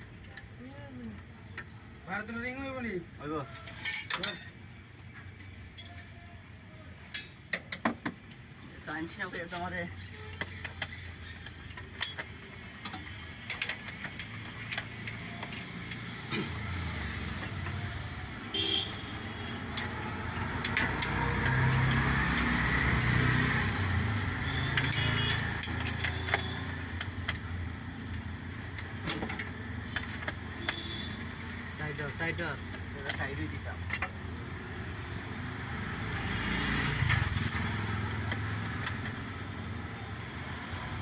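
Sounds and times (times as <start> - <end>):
vehicle engine rumbling: 0.0 - 41.0
metallic clicks and knocks: 3.4 - 41.0.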